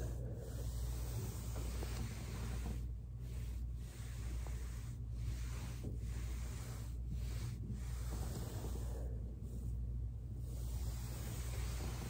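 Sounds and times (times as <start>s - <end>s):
foam roller rolling on carpet: 0.0s - 12.0s
low steady hum: 0.0s - 12.0s.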